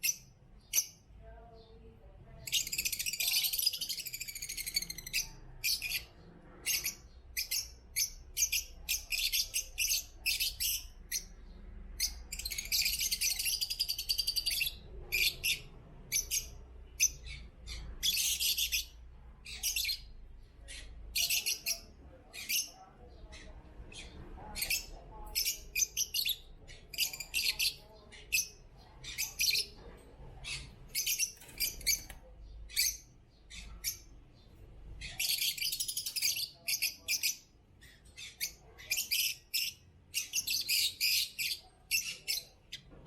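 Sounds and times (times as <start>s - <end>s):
lovebirds chirping: 0.0s - 43.0s.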